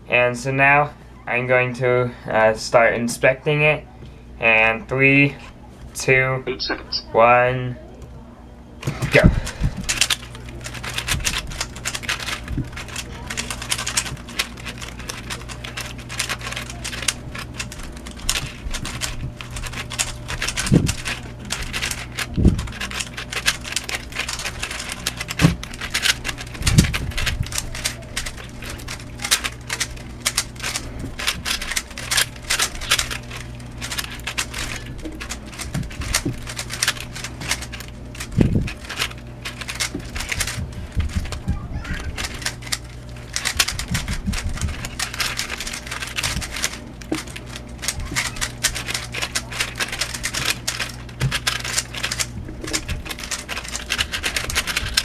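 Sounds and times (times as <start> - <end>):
low steady hum: 0.0 - 55.0
puzzle cube plastic clicking: 8.8 - 41.4, 42.0 - 55.0.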